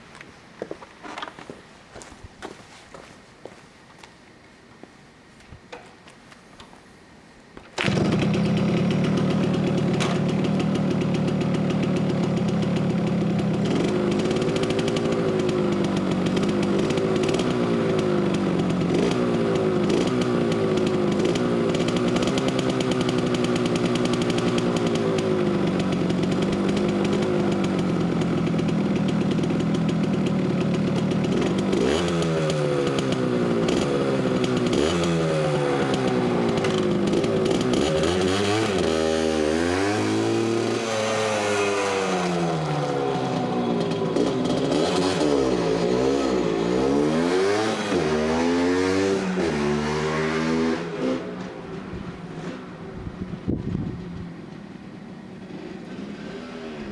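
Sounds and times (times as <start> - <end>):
two-stroke minibike engine: 7.8 - 56.9.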